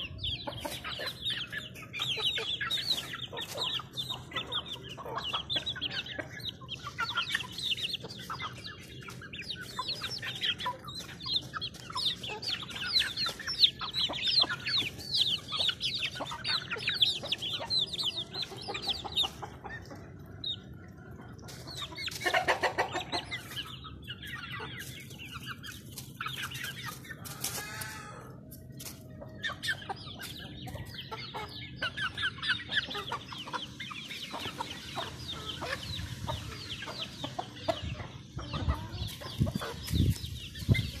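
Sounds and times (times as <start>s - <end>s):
young chickens clucking and chirping: 0.0s - 41.0s.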